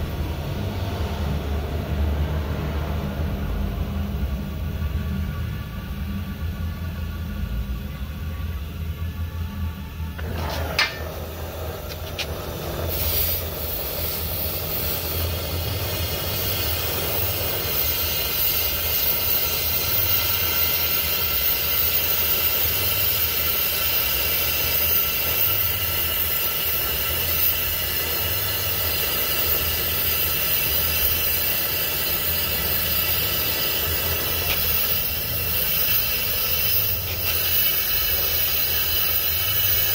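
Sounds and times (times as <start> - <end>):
gas torch flame hissing: 0.0 - 5.9, 10.0 - 39.9.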